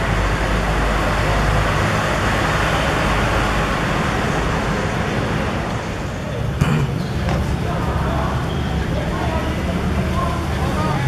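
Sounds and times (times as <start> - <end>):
rushing background noise: 0.0 - 11.0.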